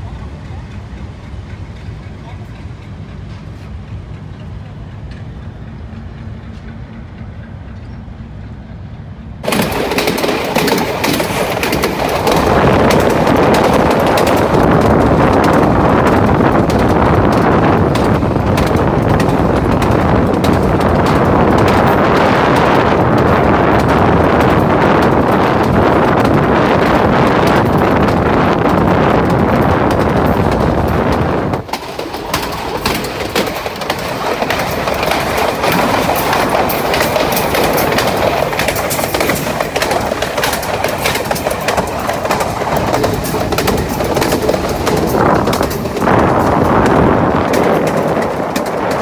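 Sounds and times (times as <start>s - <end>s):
diesel locomotive running: 0.0s - 49.0s
wheels clattering on track: 9.4s - 49.0s
wind on microphone: 9.4s - 49.0s.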